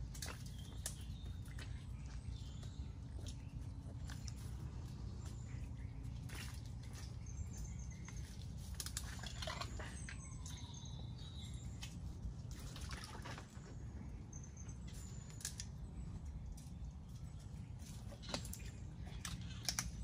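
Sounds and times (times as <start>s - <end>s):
clicks and wet crackles: 0.0s - 14.0s, 14.6s - 20.0s.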